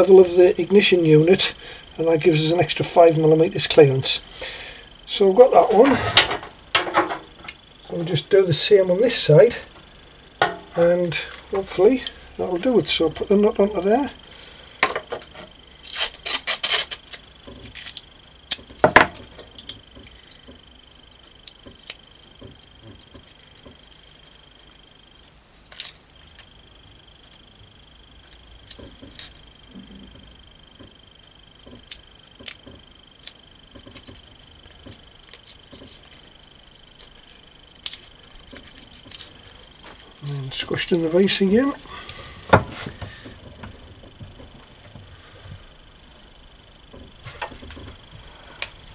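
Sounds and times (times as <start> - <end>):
faint high-pitched whine: 0.0 - 48.9.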